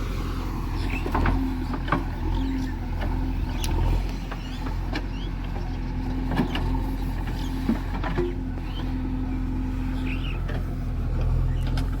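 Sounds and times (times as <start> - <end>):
heavy diesel engine rumbling: 0.0 - 12.0.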